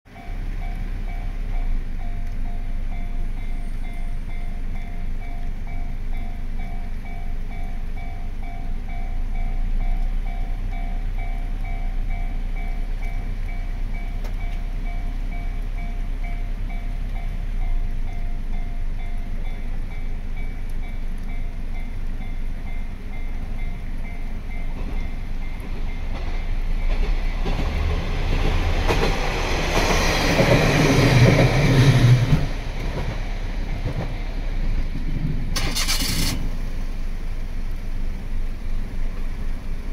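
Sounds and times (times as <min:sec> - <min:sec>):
diesel railcar rumble: 0:00.1 - 0:39.9.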